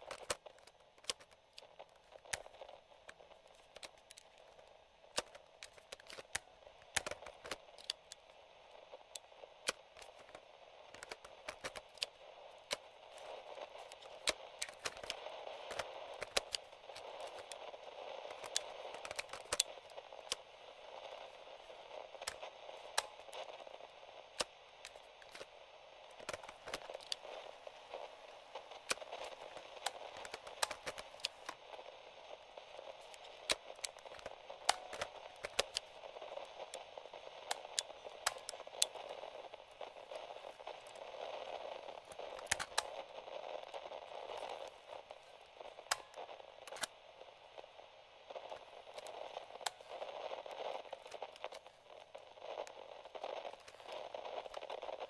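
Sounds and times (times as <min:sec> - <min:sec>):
radio static hiss: 0:00.0 - 0:55.0
tuning knob crackles and clicks: 0:00.0 - 0:55.0.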